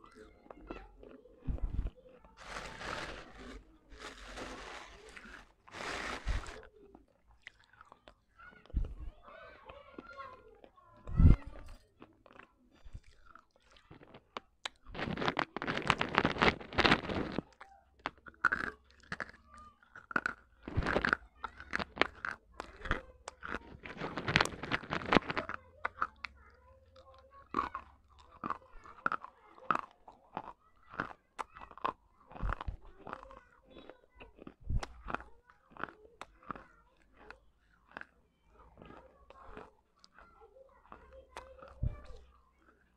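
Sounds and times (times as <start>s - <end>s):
chewing gritty pot shards: 2.2s - 6.6s, 12.0s - 26.4s, 27.0s - 42.9s.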